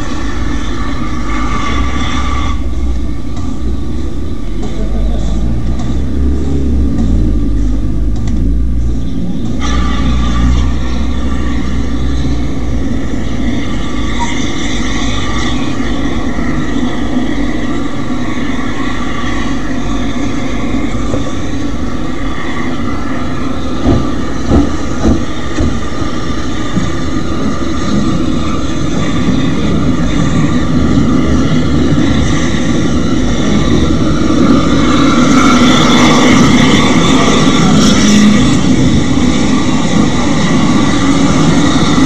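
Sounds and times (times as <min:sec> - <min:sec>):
steam locomotive hissing: 0:00.0 - 0:42.0.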